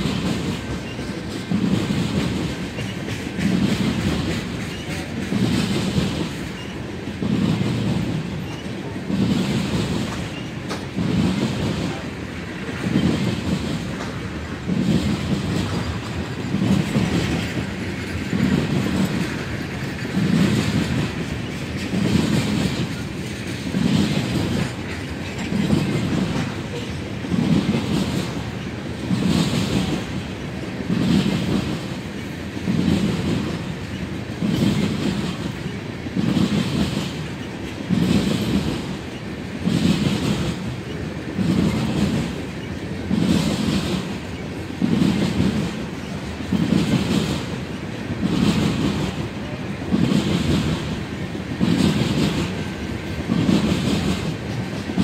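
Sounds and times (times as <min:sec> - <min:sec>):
train wheels clacking over rail joints: 0:00.0 - 0:55.0.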